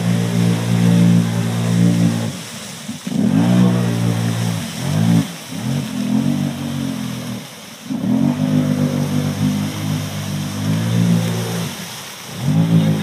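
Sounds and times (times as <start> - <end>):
atv engine revving: 0.0 - 2.4, 3.0 - 13.0
water splashing: 0.0 - 13.0.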